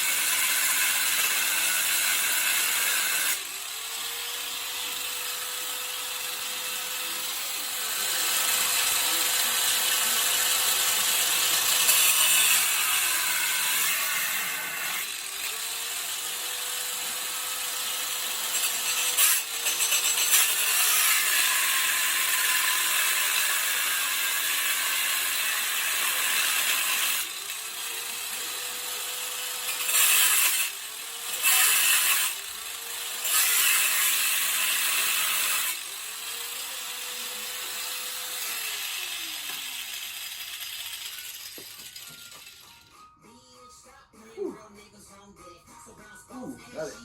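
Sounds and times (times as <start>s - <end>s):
power tool cutting steel: 0.0s - 43.1s.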